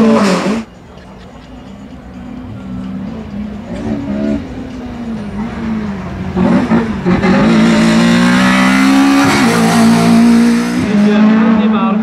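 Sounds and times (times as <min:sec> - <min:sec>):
race car engine passing: 0:02.4 - 0:12.0.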